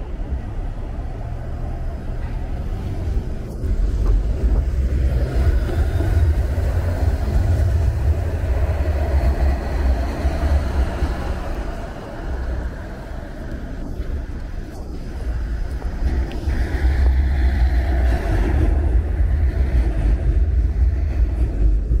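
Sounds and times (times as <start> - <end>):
street traffic noise: 0.0 - 22.0
streetcar passing: 0.0 - 22.0
wind rumble on microphone: 0.0 - 22.0.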